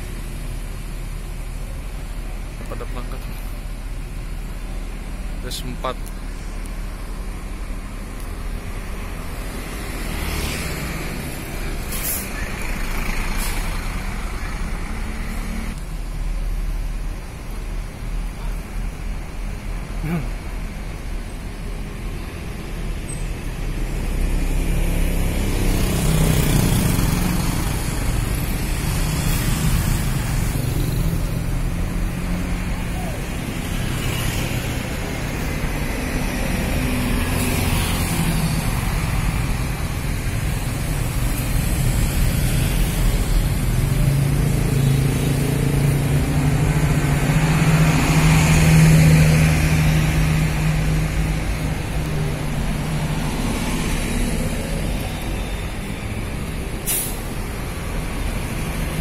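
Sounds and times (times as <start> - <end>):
bus diesel engine: 0.0 - 59.0
traffic engines: 0.0 - 59.0.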